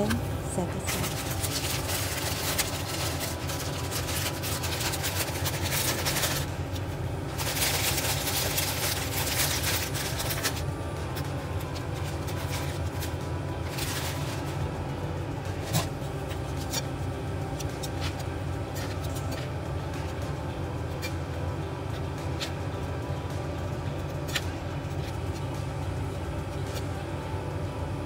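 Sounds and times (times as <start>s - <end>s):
water boiling in a pot: 0.0s - 28.0s.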